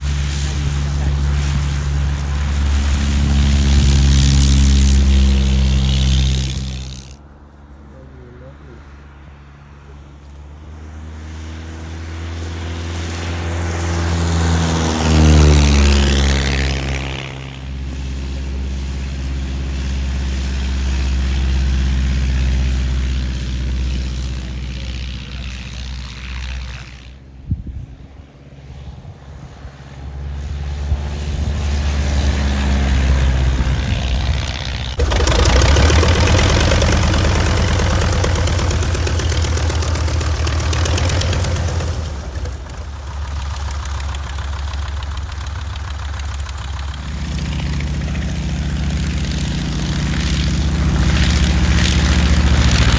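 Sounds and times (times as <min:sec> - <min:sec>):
light aircraft engine and propeller: 0:00.0 - 0:52.9.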